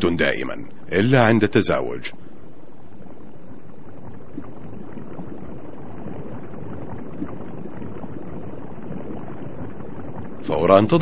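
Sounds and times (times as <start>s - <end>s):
faint crackles: 0.0s - 11.0s
underwater watery rush: 0.0s - 11.0s.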